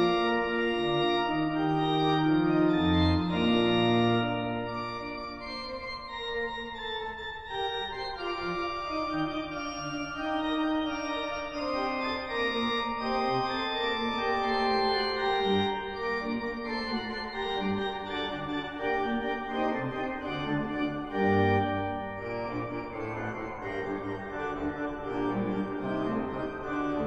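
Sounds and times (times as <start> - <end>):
organ playing slow chords: 0.0 - 27.0.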